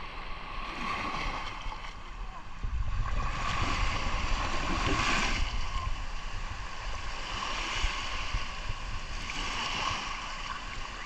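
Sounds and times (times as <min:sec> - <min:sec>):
waves breaking on shore: 0:00.0 - 0:11.0
wind rumble on microphone: 0:00.0 - 0:11.0.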